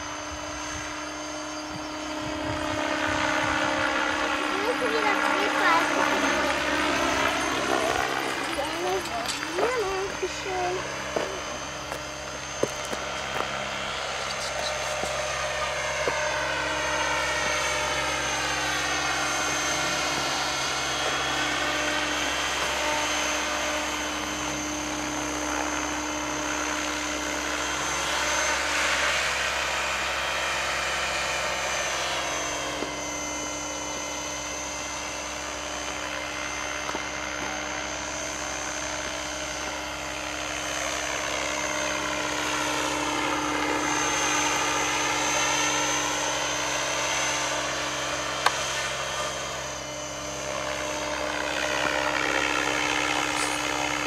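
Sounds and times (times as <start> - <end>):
model helicopter rotor whine: 0.0 - 54.0.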